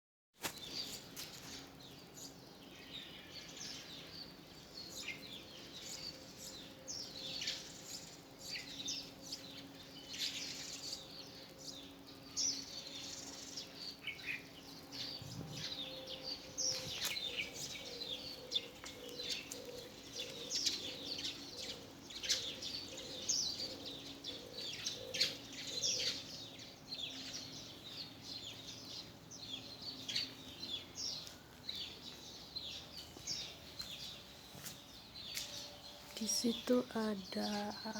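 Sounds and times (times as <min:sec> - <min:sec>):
flock of small birds chirping: 0:00.4 - 0:37.9.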